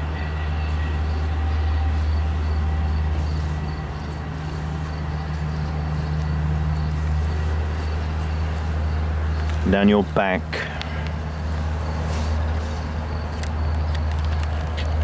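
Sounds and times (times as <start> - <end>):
low ambient drone: 0.0 - 15.0.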